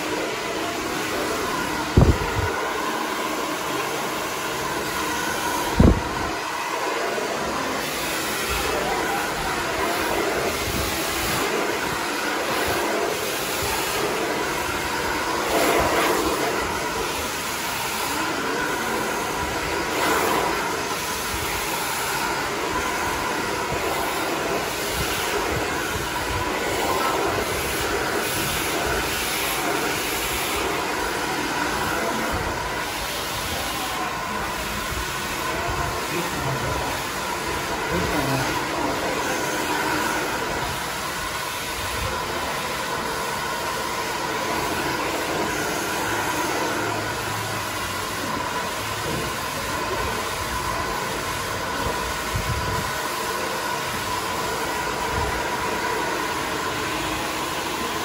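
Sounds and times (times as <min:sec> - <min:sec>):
hair dryer blowing air: 0:00.0 - 0:58.0.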